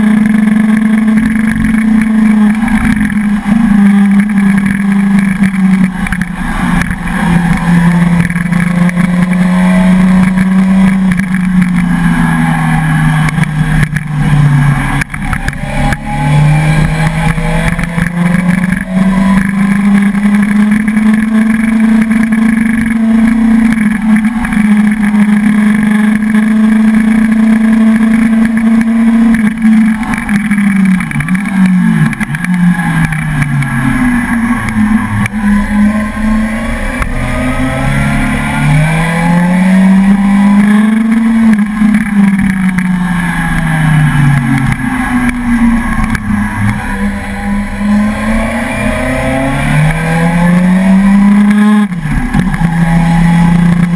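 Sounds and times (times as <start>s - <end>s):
motorcycle engine running hard: 0.0s - 53.9s.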